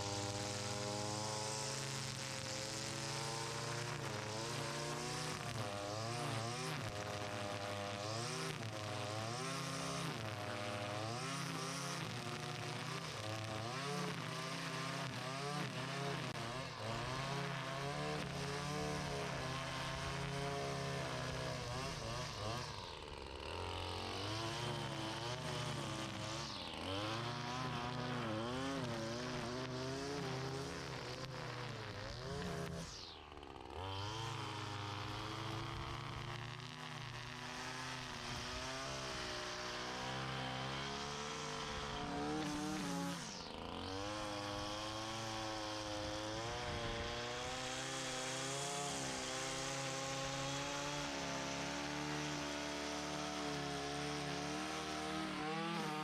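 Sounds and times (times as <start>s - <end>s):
small gas engine running: 0.0s - 56.0s.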